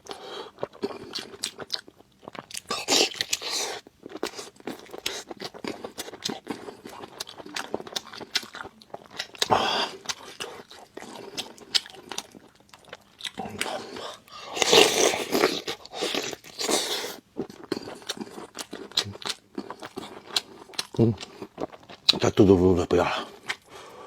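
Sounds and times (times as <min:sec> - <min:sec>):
close chewing and biting: 0:00.0 - 0:22.3, 0:23.2 - 0:23.8.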